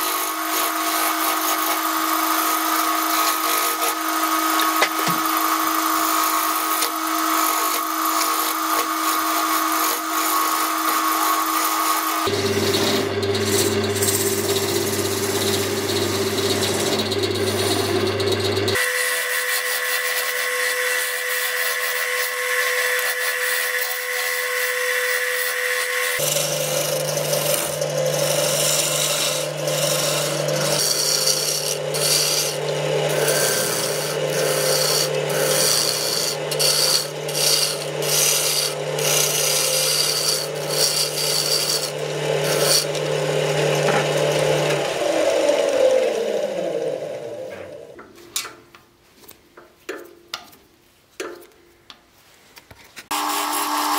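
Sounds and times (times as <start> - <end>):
turning tool scraping wood: 0.0 - 45.9
wood lathe motor hum: 0.0 - 48.0, 53.1 - 53.9.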